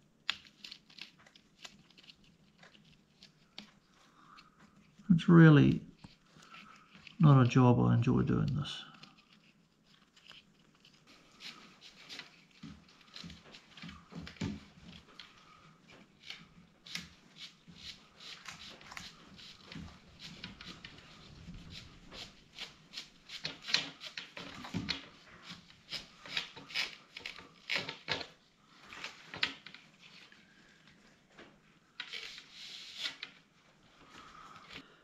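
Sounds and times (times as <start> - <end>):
plastic clicks rubs and scrapes: 0.1 - 5.1, 5.9 - 7.5, 8.4 - 33.5.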